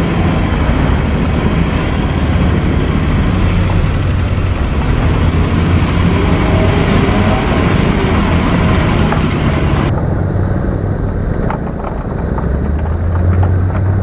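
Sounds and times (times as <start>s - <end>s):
diesel engine of heavy machinery: 0.0s - 14.0s.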